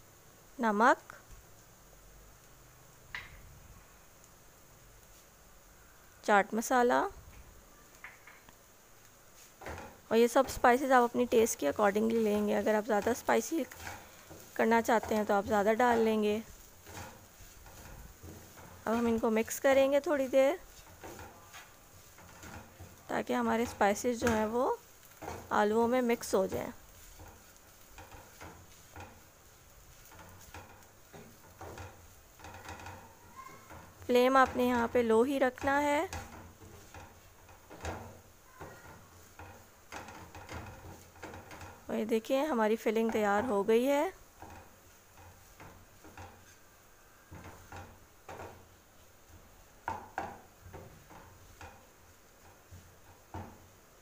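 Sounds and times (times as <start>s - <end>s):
wooden spatula scraping pan: 9.3s - 54.0s.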